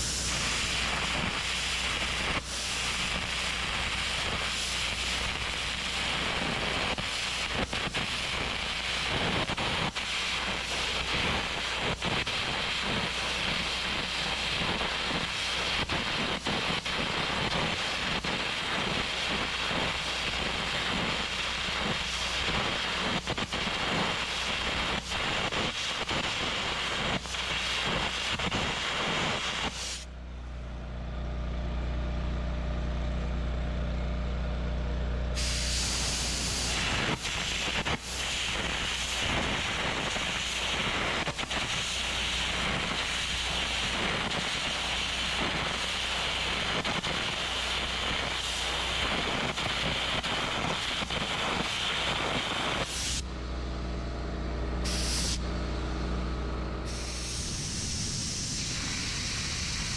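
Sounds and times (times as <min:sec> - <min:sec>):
arc gouging hiss and crackle: 0:00.0 - 0:30.1, 0:35.4 - 0:53.3, 0:54.8 - 0:55.5, 0:56.8 - 0:59.9
steady low hum: 0:00.0 - 0:46.7, 0:52.2 - 0:59.9.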